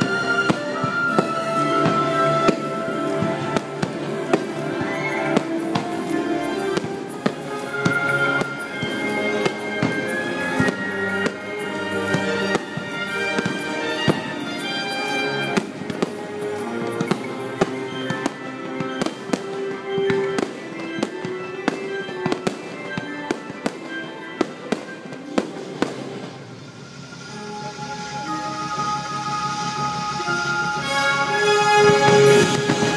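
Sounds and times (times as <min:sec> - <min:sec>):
fireworks bangs: 0:00.0 - 0:32.9
show music: 0:00.0 - 0:32.9.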